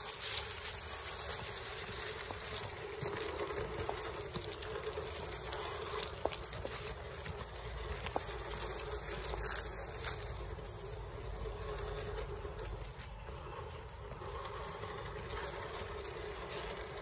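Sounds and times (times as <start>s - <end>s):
electric motor whine: 0.0s - 17.0s
pebbles clicking: 0.0s - 17.0s
tyres crunching gravel: 0.0s - 17.0s.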